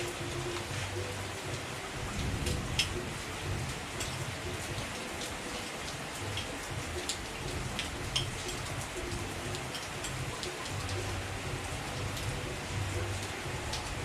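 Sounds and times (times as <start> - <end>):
heavy rain: 0.0 - 14.0
raindrops ticking: 0.0 - 14.0.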